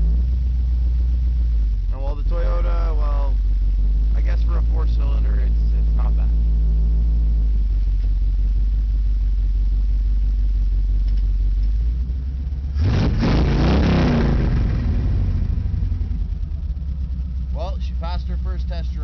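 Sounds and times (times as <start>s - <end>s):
car engine rumbling and revving: 0.0s - 19.0s.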